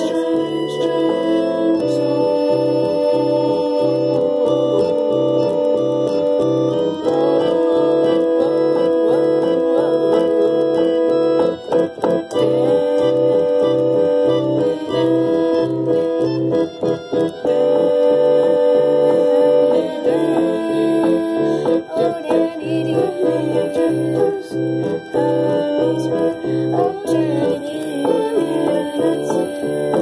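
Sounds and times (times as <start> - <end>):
organ-like keyboard chords: 0.0 - 30.0
pulsing bass: 0.0 - 30.0.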